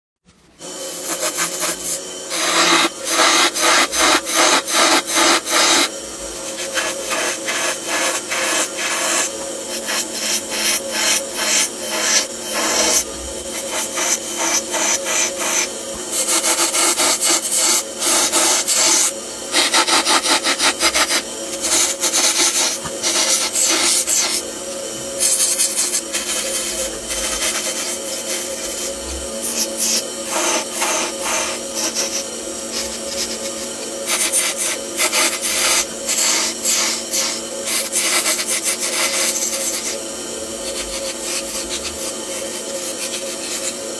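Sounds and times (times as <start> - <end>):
machine hum: 0.4 - 43.9
drill rasping into wood: 0.9 - 40.0, 40.6 - 43.9.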